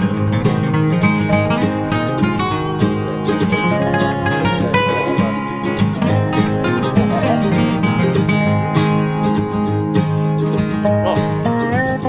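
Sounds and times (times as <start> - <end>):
upbeat plucked acoustic music: 0.0 - 12.0.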